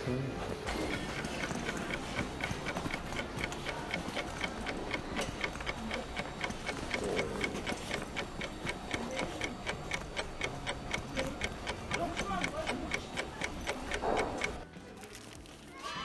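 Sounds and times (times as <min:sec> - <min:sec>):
steady even ticking: 0:00.7 - 0:14.7.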